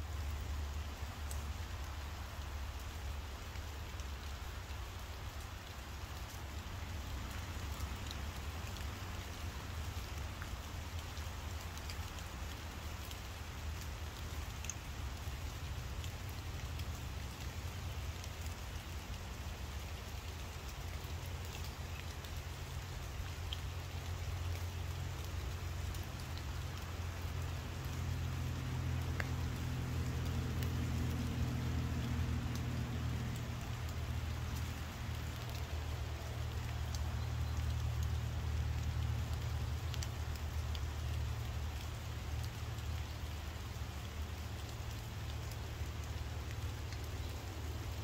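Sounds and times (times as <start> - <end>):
raindrops ticking nearby: 0.0 - 48.0
steady rain falling: 0.0 - 48.0.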